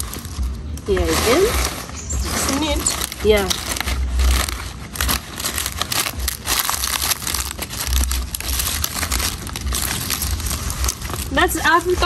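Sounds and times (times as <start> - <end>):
banana leaves crackling: 0.0 - 12.0.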